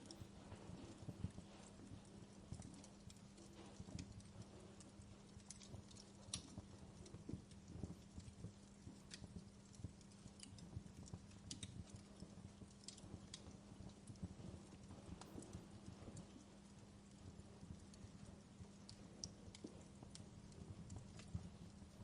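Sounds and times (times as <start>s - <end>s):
steady low hum: 0.0s - 22.0s
wood fire crackling: 0.0s - 22.0s.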